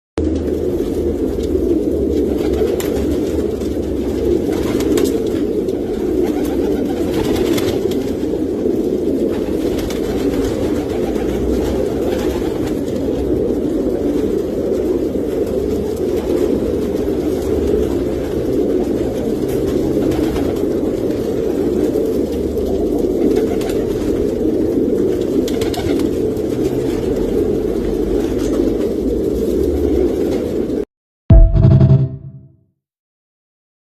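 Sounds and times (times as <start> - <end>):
pigeons cooing: 0.3 - 30.8.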